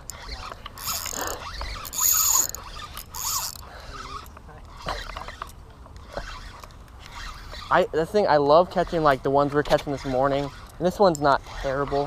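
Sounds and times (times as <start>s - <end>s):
reel handling: 0.0s - 8.0s, 8.7s - 12.0s
fishing reel whirring: 0.0s - 12.0s.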